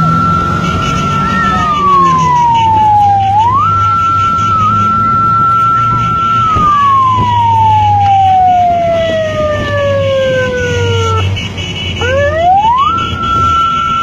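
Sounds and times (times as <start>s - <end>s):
siren wailing: 0.0s - 11.3s, 12.0s - 14.0s.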